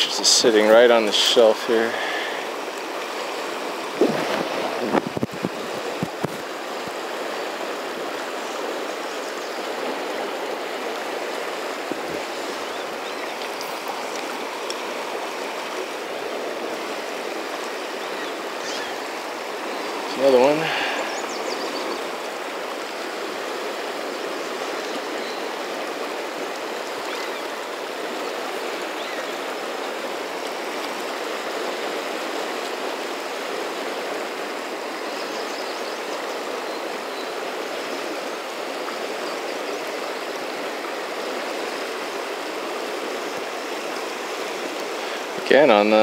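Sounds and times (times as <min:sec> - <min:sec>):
river current rushing: 0:00.0 - 0:46.0.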